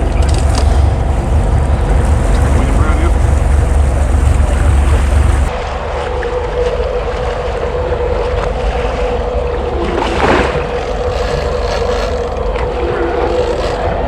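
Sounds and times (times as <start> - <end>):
boat motor humming: 0.0 - 14.0
water rushing past: 0.0 - 14.0
wind: 0.0 - 14.0.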